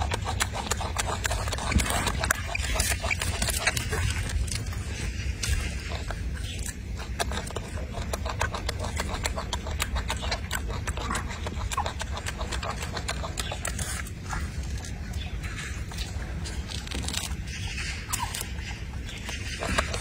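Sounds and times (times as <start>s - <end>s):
monkey chewing wet smacks: 0.0s - 20.0s.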